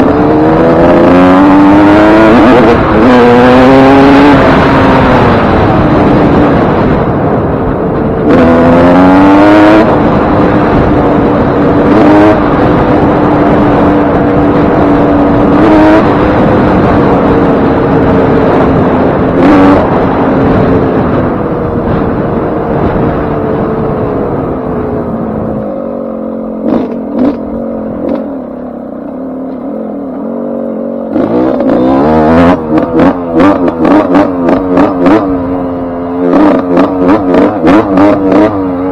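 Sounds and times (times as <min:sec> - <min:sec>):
two-stroke engine revving: 0:00.0 - 0:22.1, 0:25.1 - 0:29.1, 0:30.1 - 0:38.9.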